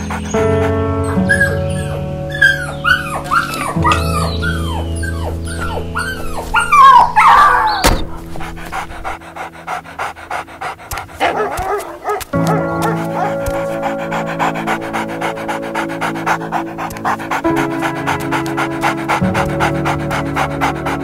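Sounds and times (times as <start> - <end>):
background music: 0.0 - 21.0
dog whining and yelping: 0.0 - 21.0.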